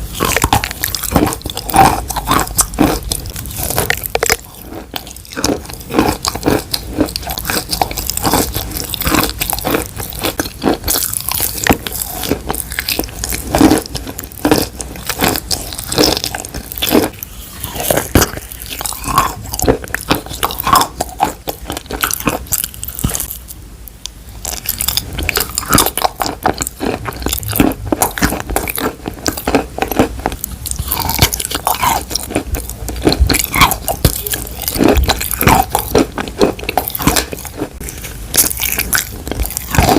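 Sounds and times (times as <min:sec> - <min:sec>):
crunchy biting and chewing: 0:00.0 - 0:39.9.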